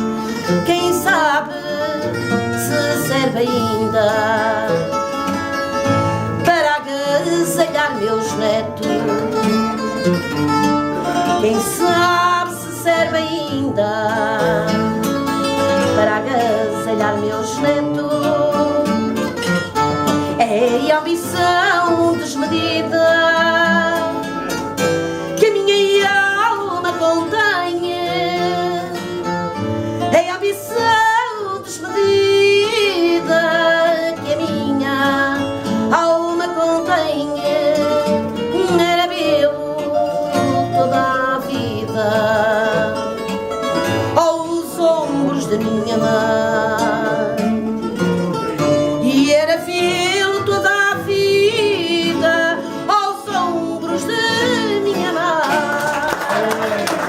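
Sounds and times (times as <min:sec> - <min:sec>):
woman singing with vibrato: 0:00.0 - 0:10.0, 0:11.0 - 0:24.6, 0:25.2 - 0:57.0
guitars playing: 0:00.0 - 0:57.0.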